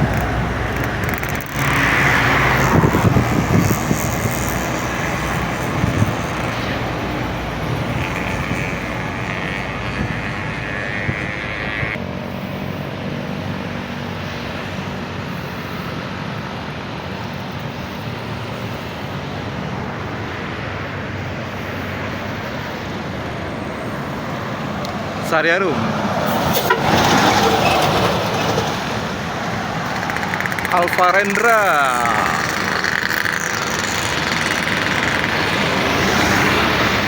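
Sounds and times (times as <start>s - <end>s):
bus engines rumbling: 0.0s - 37.0s.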